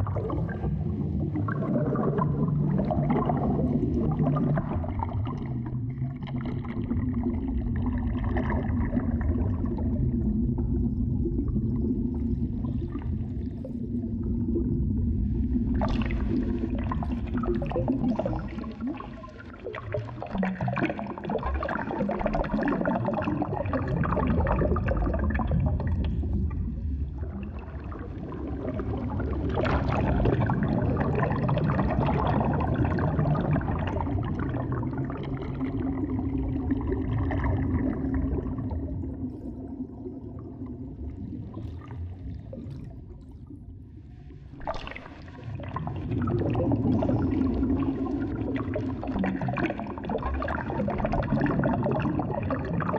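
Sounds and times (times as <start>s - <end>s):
water gurgling and swirling: 0.0s - 52.9s.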